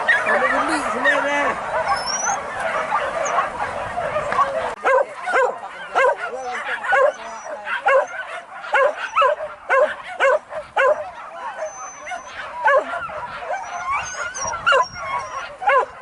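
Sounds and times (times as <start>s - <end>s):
dogs yelping and baying: 0.0s - 16.0s.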